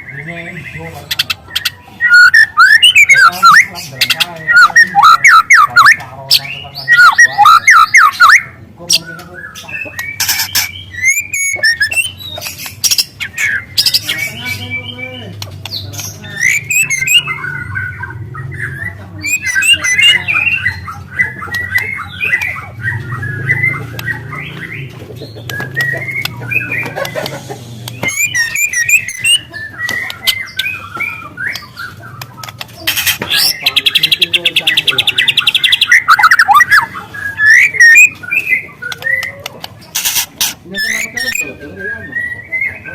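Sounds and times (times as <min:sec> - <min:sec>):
bird singing rapid twittering song: 0:00.0 - 0:42.9.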